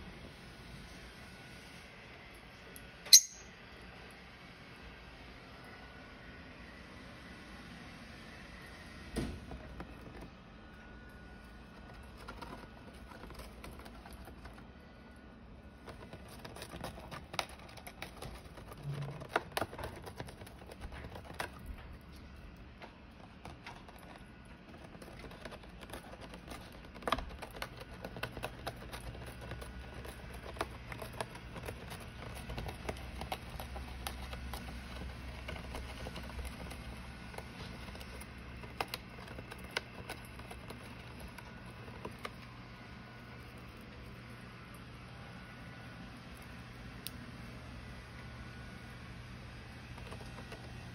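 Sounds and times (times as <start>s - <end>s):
bird chewing paper bag: 9.1s - 14.9s, 15.6s - 50.9s.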